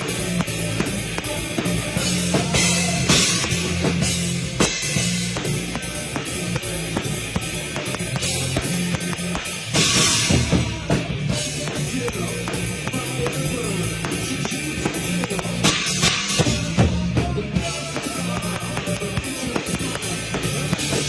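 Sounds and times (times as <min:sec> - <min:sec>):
bass and guitar notes: 0:00.0 - 0:21.0
drum kit kick and snare: 0:00.0 - 0:21.0.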